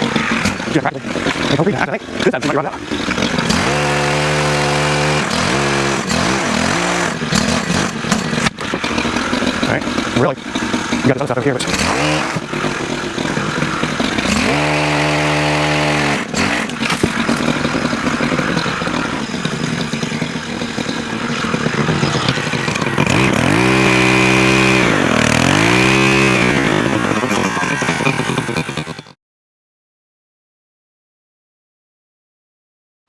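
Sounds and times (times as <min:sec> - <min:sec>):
small engine idling and revving: 0:00.0 - 0:29.2.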